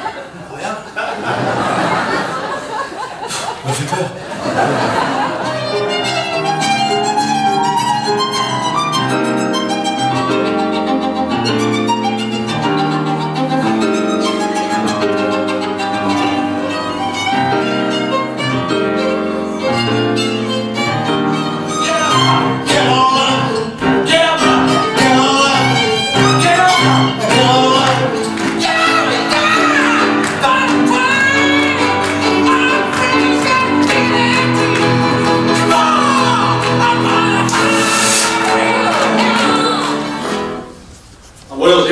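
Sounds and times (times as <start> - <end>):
grand piano playing: 4.2 - 41.0
violin playing: 5.0 - 40.9.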